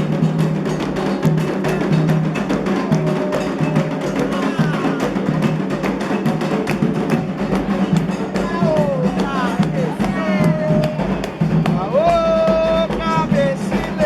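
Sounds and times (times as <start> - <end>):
drums playing fast beat: 0.0 - 14.0.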